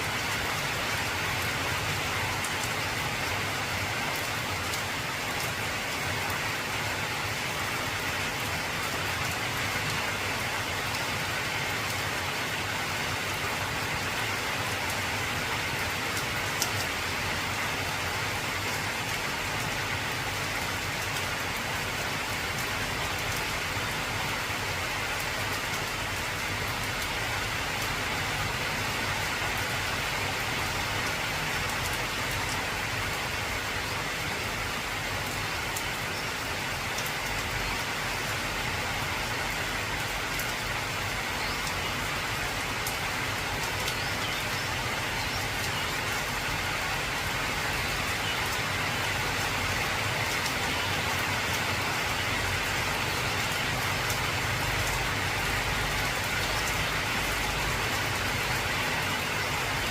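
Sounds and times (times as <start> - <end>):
heavy rain on metal roof: 0.0 - 59.9.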